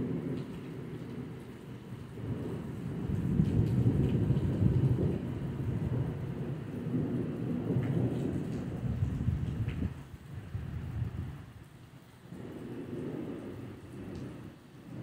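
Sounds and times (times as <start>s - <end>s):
thunder rumbling: 0.0s - 11.6s, 12.3s - 15.0s
steady rain: 0.0s - 15.0s.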